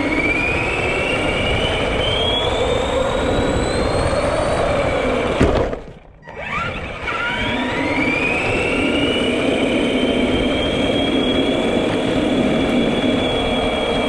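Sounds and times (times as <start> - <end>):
toy truck electric motor whining: 0.0 - 14.0.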